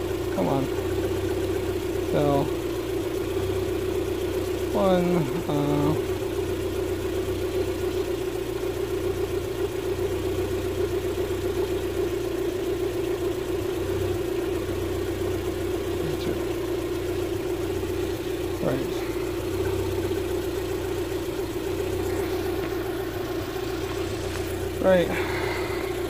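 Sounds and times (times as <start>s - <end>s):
car engine idling roughly: 0.0s - 26.0s.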